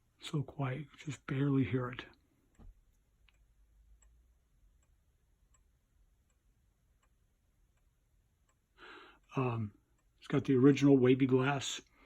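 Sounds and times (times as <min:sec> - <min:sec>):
faint wall clock ticking: 0:00.1 - 0:12.0.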